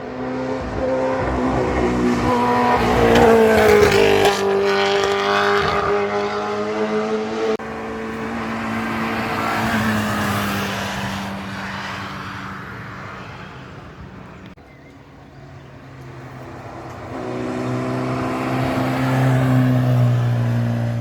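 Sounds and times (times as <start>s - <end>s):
racing car passing at speed: 0.0s - 14.5s, 15.7s - 21.0s
engine running: 0.0s - 21.0s.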